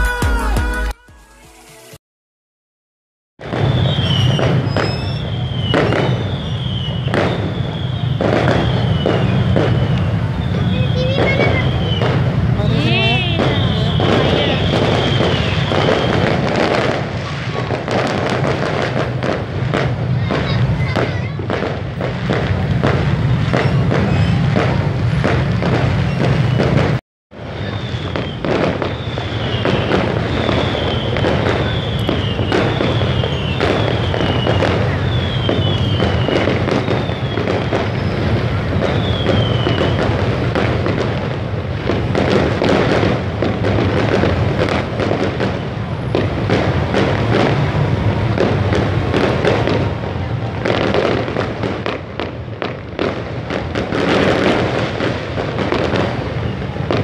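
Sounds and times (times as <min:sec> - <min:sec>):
crowded street din: 0:03.4 - 0:57.0
falling firework whistle: 0:03.4 - 0:57.0
firecrackers crackling and popping: 0:03.4 - 0:57.0.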